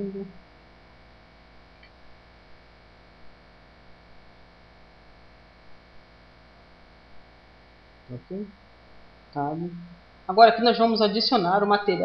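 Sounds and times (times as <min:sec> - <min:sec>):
electrical mains hum with hiss: 0:00.0 - 0:12.0.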